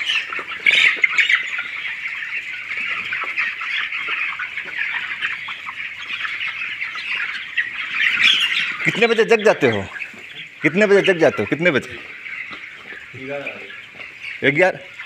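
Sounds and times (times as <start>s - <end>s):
chickens chirping in chorus: 0.0s - 15.0s.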